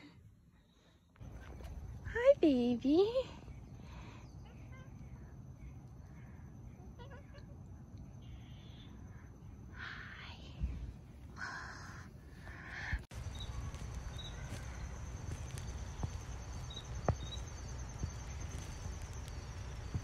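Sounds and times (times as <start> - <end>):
insects trilling: 0.6 - 20.0.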